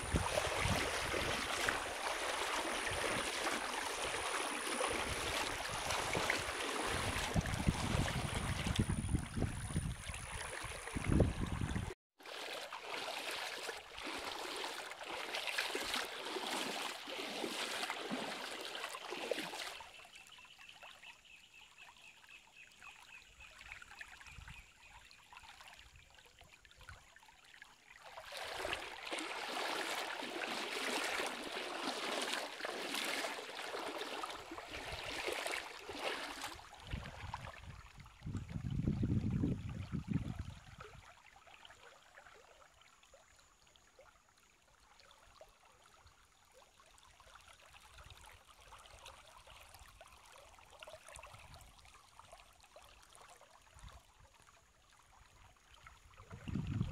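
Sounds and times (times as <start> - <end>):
shallow river water flowing: 0.0 - 56.9.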